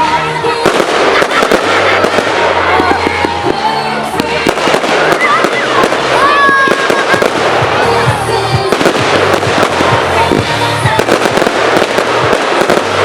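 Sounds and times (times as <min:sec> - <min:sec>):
fireworks bangs and crackling: 0:00.0 - 0:13.0
loud music with bass line: 0:00.0 - 0:13.0.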